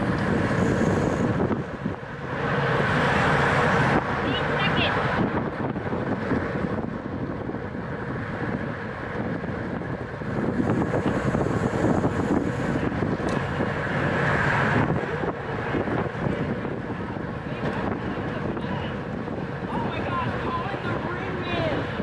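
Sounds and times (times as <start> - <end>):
road noise rumble: 0.0 - 22.0
wind rushing over microphone: 0.0 - 22.0.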